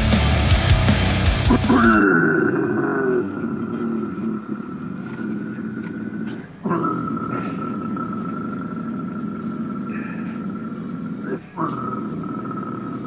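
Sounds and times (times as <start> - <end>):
man growling vocals: 1.3 - 13.0.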